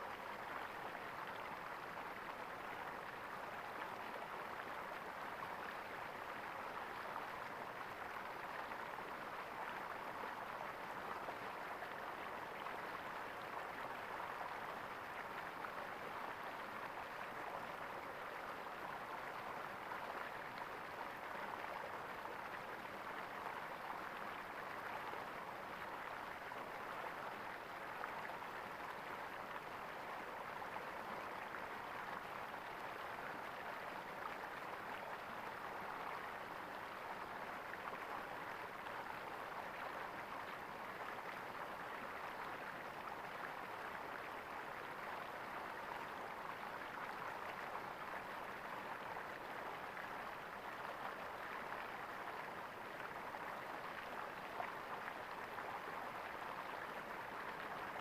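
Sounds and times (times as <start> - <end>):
stream water gurgling: 0.0 - 58.0.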